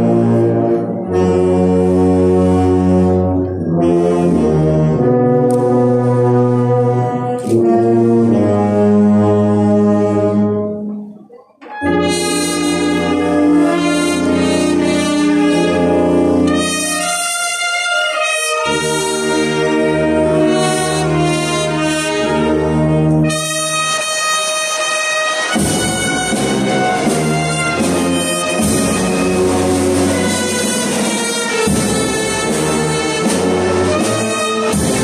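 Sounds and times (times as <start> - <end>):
brass band playing slow chords: 0.0 - 35.0.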